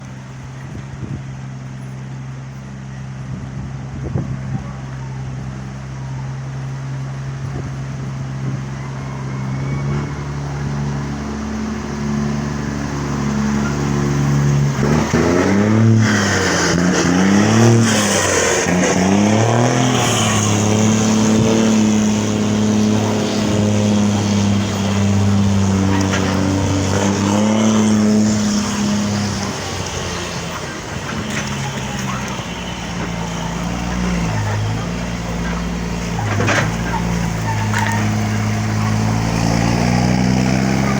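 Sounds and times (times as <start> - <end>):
bus diesel engine shifting gears: 0.0 - 40.9.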